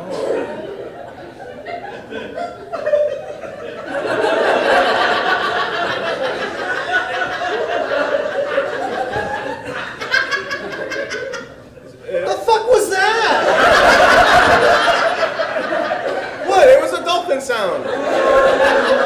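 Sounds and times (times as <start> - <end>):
audience laughing: 0.0 - 19.0.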